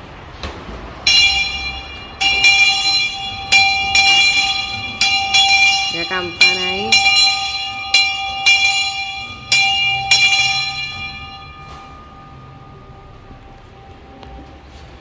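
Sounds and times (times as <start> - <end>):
locomotive bell clanging: 1.0 - 15.0.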